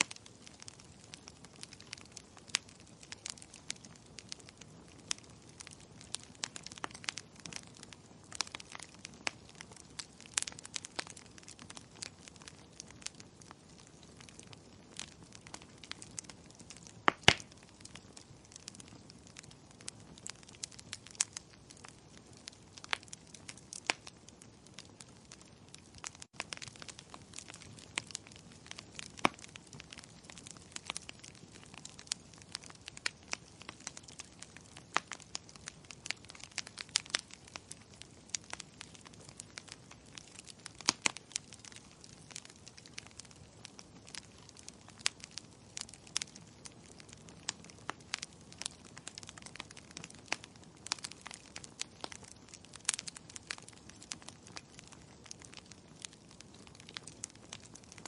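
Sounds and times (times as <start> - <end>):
fireplace fire crackling: 0.0 - 58.0
sharp pops and snaps: 0.0 - 58.0
soft steady hiss: 0.0 - 58.0.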